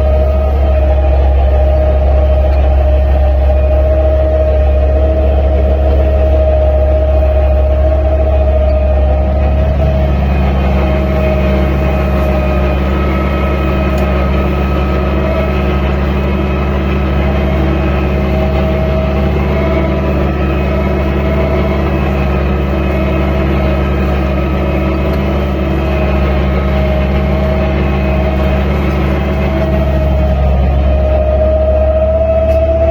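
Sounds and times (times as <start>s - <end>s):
high whine: 0.0s - 32.9s
tractor diesel engine running: 0.0s - 32.9s.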